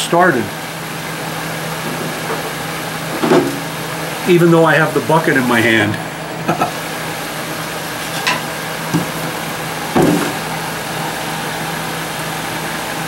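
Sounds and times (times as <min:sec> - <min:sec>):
dehumidifier humming: 0:00.0 - 0:13.0.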